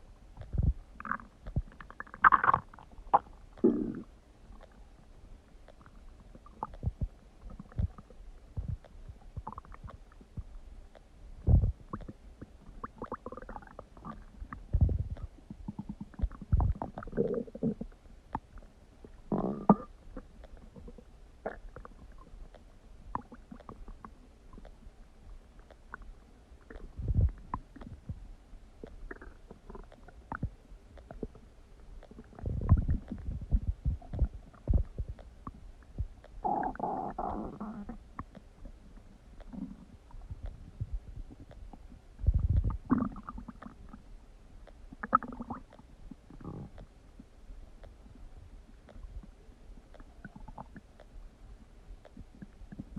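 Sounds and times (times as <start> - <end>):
stomach gurgling: 0.4 - 44.1, 44.7 - 52.9.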